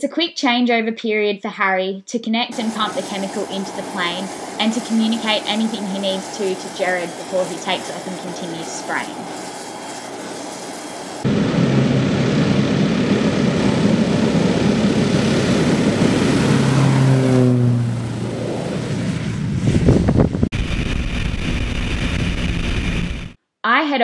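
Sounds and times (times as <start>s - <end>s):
engine and wind noise in flight: 2.5s - 23.4s
plane engine and propeller at takeoff: 2.5s - 23.4s.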